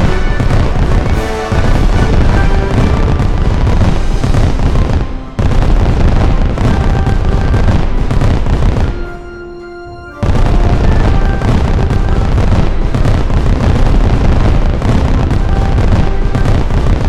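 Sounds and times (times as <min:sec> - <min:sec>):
loud driving background music: 0:00.0 - 0:17.0.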